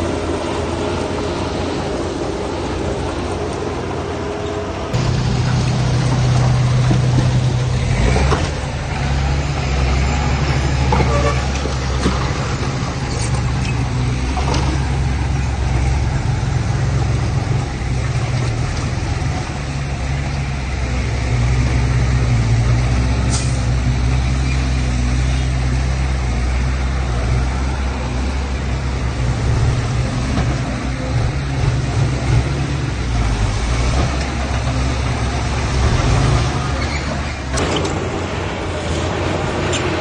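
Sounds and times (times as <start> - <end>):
heavy diesel engine droning: 0.0 - 40.0.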